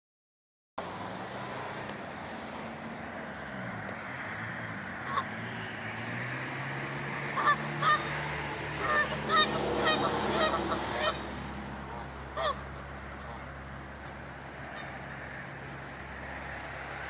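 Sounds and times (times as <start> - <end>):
steady low hum: 2.1 - 17.0
geese honking: 2.6 - 17.0.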